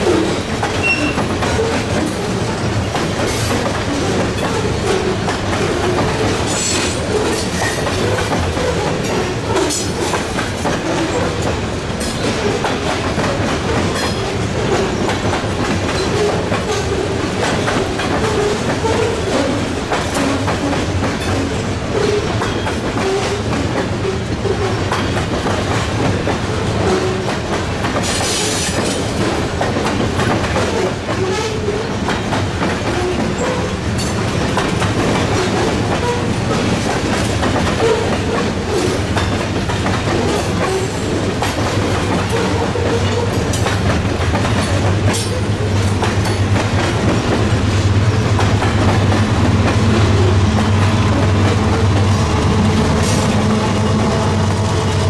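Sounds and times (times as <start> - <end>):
freight train wheels clicking on rails: 0.0 - 55.0.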